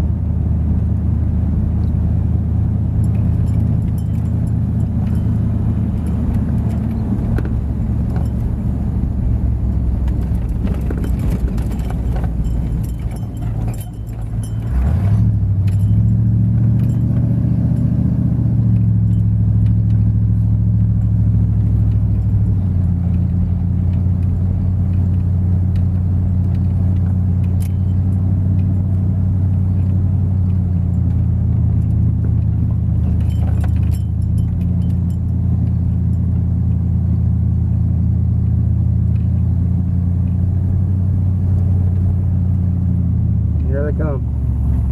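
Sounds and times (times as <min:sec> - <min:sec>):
truck engine running: 0:00.0 - 0:44.9.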